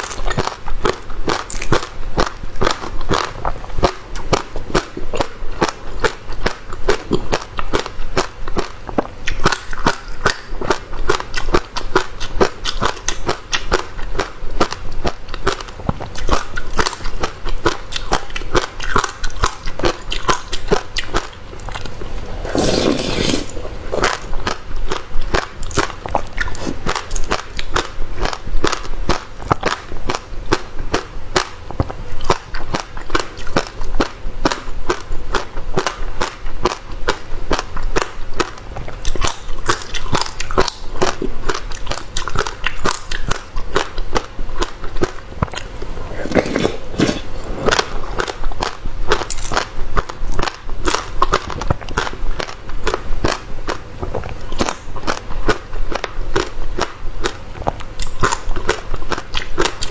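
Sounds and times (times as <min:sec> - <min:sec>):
chewing crunchy seeds: 0:00.0 - 0:59.9.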